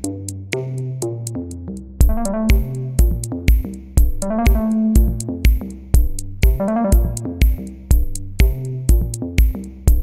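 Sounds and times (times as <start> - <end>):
electronic music with drum machine: 0.0 - 10.0.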